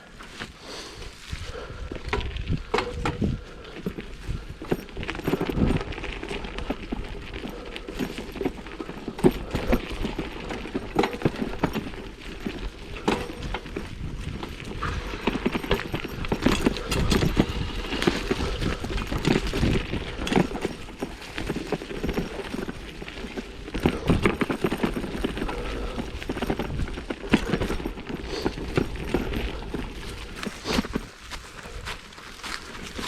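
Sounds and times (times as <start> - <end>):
bike knocks and rattles: 1.6 - 33.0.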